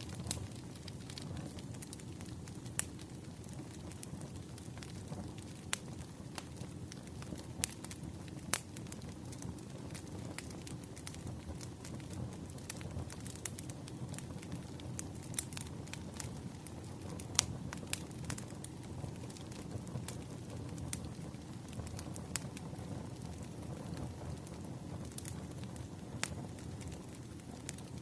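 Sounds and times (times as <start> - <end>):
firewood crackling: 0.0 - 28.0
sharp pops and snaps of fire: 0.0 - 28.0.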